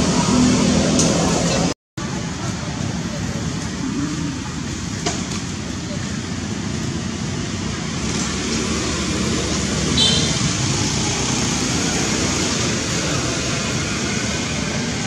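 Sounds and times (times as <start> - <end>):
rushing background noise: 0.0 - 15.0.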